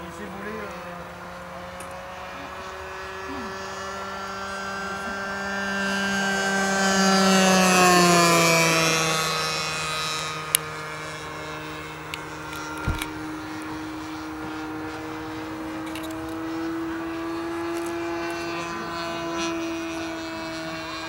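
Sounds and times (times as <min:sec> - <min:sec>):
model plane engine passing: 0:00.0 - 0:21.0.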